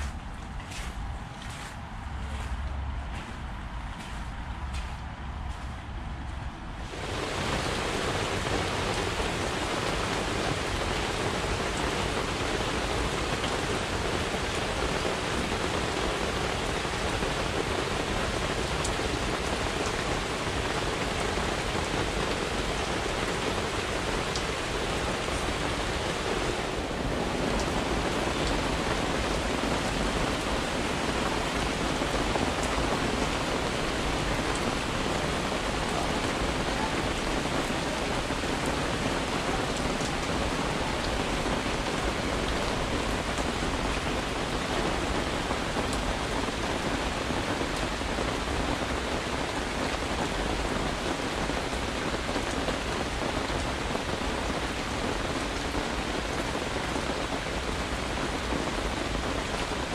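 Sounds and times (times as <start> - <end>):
rain pattering on a tent: 0.0 - 59.9.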